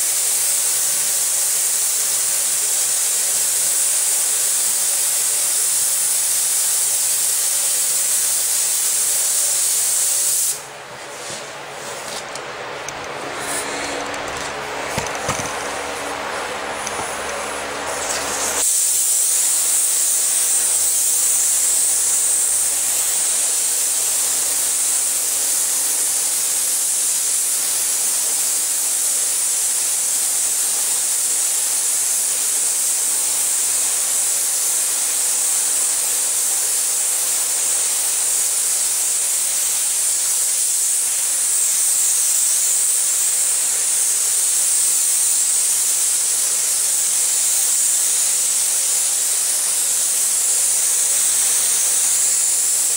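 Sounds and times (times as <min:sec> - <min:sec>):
paint spray gun hissing: 0:00.0 - 0:52.9.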